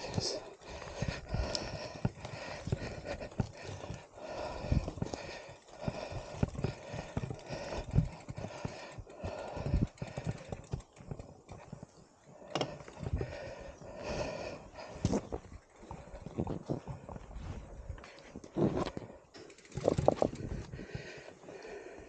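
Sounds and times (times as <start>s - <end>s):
footsteps on rough track: 0.0s - 22.0s
heavy breathing: 0.0s - 22.0s.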